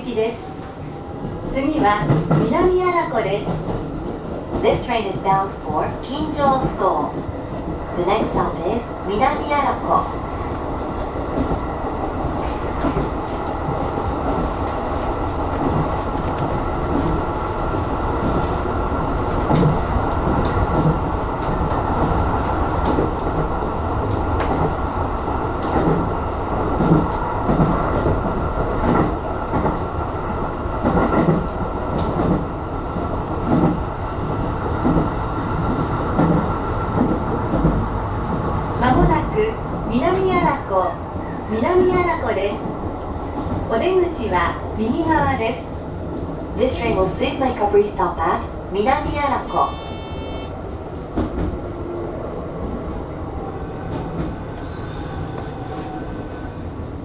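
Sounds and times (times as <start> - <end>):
train running noise: 0.0 - 57.0.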